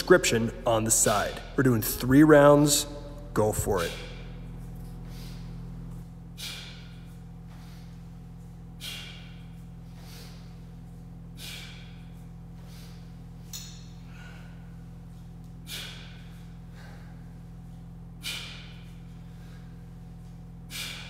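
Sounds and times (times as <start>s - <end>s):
steady low hum: 0.0s - 21.0s
man breathing forcefully: 3.8s - 21.0s.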